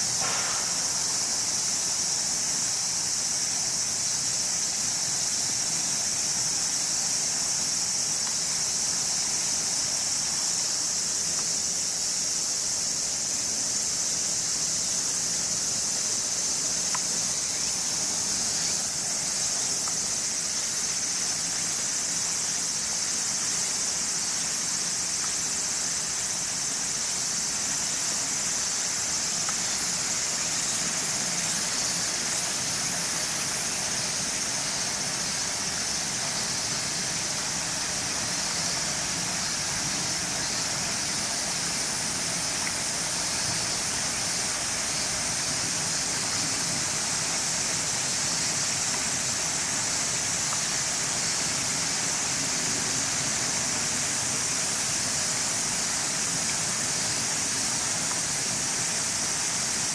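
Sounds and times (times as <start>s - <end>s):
high insect chorus: 0.0s - 59.9s.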